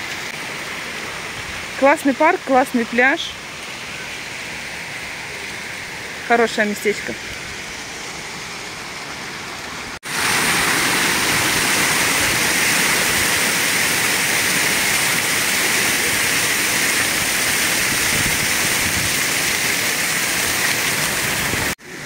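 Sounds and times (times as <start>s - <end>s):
fountain water jets splashing: 0.0s - 22.0s.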